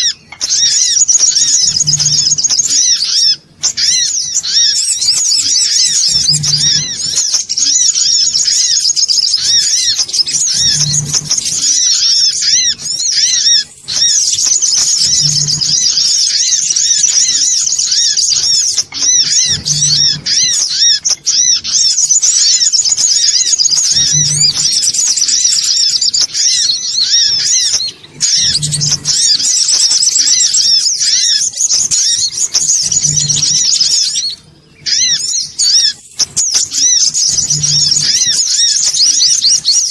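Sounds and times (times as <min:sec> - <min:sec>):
high-pitched bird chattering: 0:00.0 - 0:39.9.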